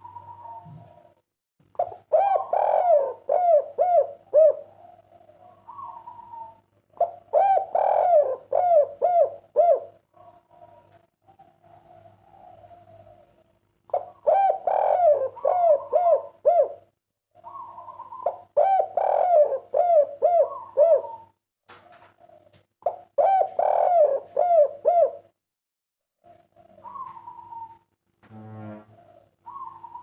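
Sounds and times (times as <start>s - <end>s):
dove cooing: 0.0s - 1.2s, 1.8s - 25.3s, 26.2s - 27.8s, 29.0s - 30.0s.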